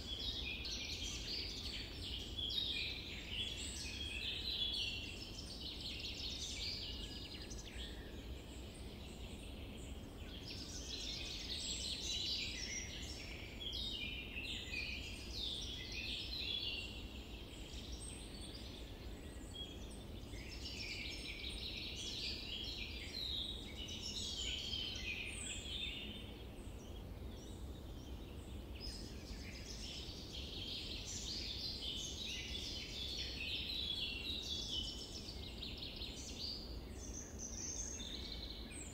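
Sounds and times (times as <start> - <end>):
low background noise: 0.0 - 38.9
small birds chirping and trilling: 0.0 - 38.9.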